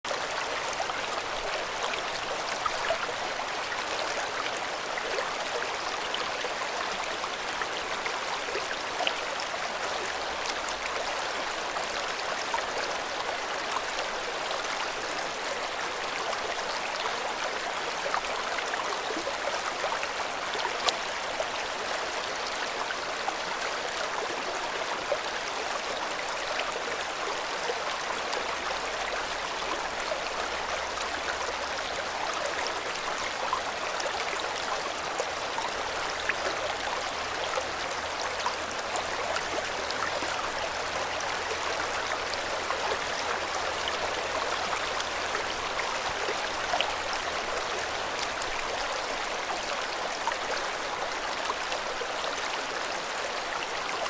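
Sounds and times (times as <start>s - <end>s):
river water flowing: 0.1s - 54.0s.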